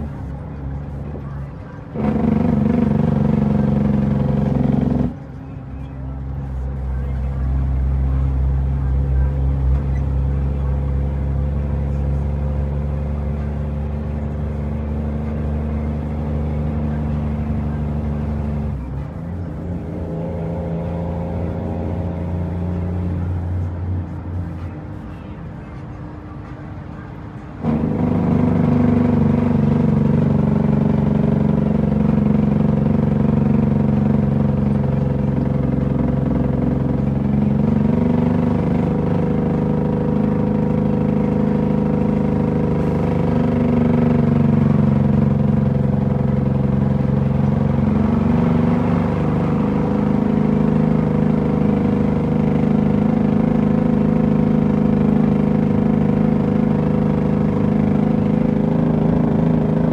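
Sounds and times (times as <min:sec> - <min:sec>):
truck diesel engine under load: 0:00.0 - 0:59.9.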